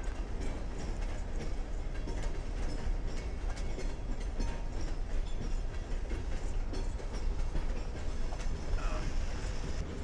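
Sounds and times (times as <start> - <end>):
freight train rumble: 0.0 - 10.0
wheels clicking over rail joints: 0.0 - 10.0.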